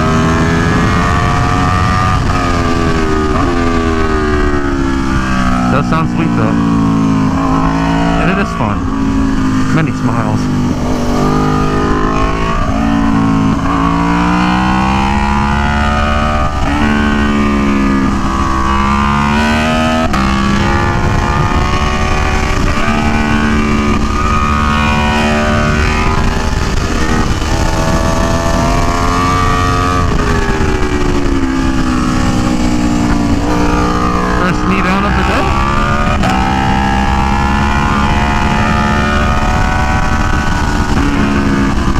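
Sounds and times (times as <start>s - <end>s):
wind rush on microphone: 0.0s - 9.7s, 10.4s - 41.9s
motorcycle engine at full throttle: 0.0s - 41.9s.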